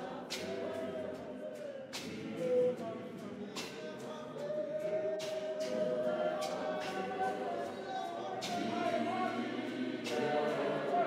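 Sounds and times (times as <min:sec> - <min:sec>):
choir singing a cappella: 0:00.0 - 0:11.0.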